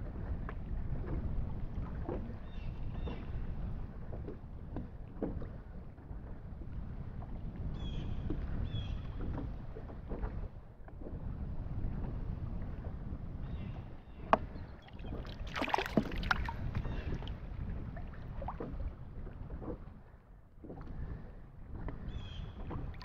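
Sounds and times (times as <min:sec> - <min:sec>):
water lapping and splashing: 0:00.0 - 0:23.0
wind rumbling on microphone: 0:00.0 - 0:23.0.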